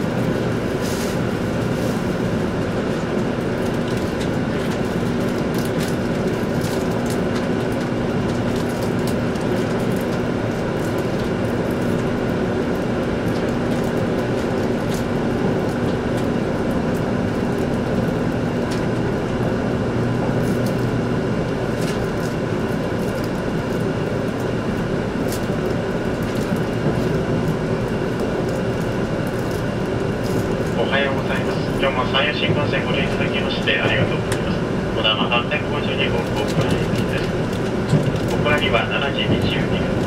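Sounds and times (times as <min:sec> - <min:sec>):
train cabin running rumble: 0:00.0 - 0:40.0.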